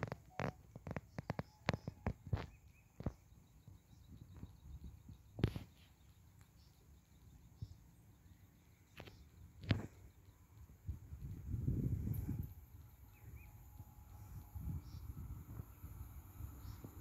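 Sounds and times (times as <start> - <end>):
faint bird or insect sounds: 0.0 - 17.0.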